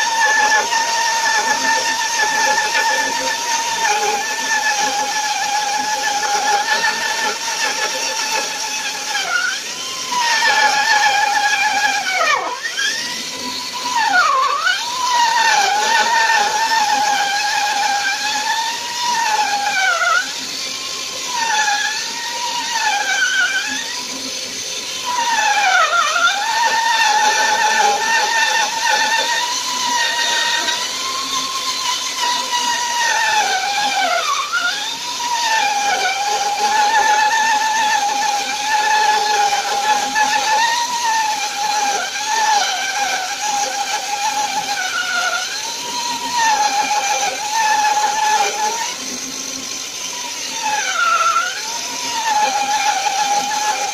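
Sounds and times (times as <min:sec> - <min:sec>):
bandsaw motor whine: 0:00.0 - 0:53.9
saw cutting wood: 0:00.0 - 0:53.9.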